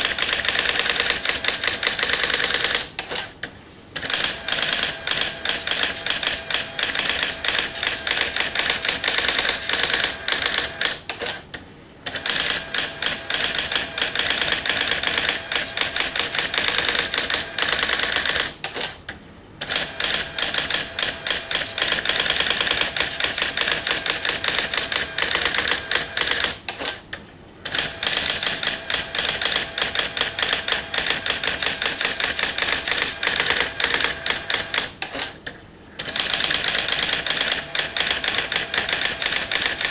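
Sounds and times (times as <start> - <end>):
electronic typewriter printing: 0.0 - 3.3, 4.0 - 11.4, 12.1 - 19.0, 19.6 - 27.0, 27.7 - 35.4, 36.0 - 39.9.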